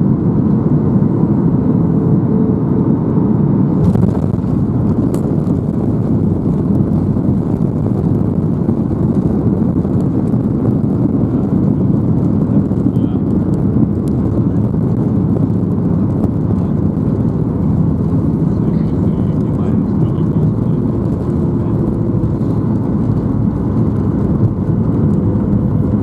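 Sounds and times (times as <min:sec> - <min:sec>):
aircraft cabin low rumble: 0:00.0 - 0:26.0
aircraft rolling on runway: 0:00.0 - 0:26.0.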